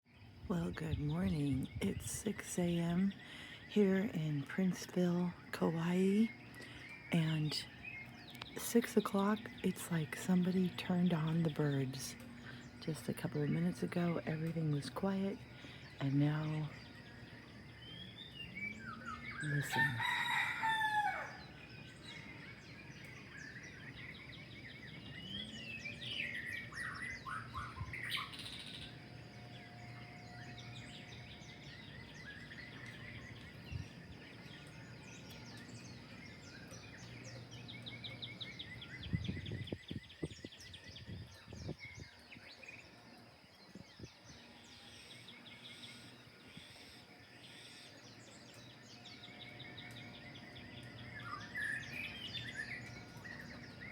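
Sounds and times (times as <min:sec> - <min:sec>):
birds chirping and singing: 0:00.1 - 0:53.9.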